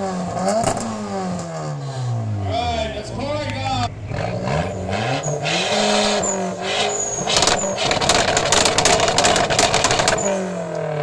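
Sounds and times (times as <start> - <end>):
car engine revving: 0.0 - 11.0
exhaust crackle: 0.0 - 11.0.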